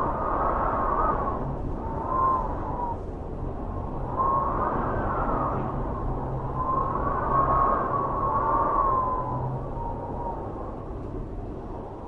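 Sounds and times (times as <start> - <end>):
howling wind: 0.0 - 12.0
whistling wind tone: 0.0 - 12.0.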